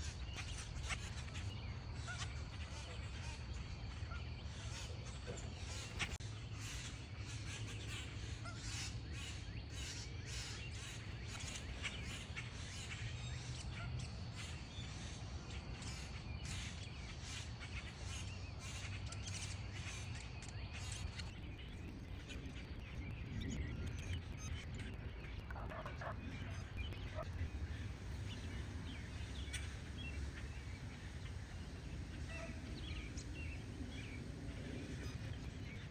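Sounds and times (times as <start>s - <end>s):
low background hum: 0.0s - 35.9s
wild birds calling: 0.0s - 35.9s.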